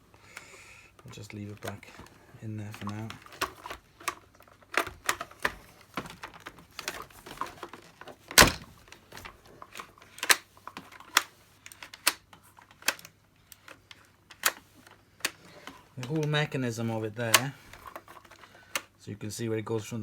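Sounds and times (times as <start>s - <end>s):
plastic parts clicking and knocking: 0.0s - 19.0s.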